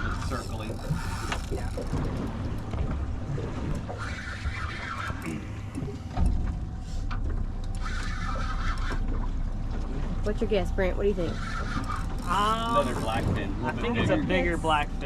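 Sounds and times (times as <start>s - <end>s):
boat rumble: 0.0s - 15.0s
wind: 0.0s - 15.0s.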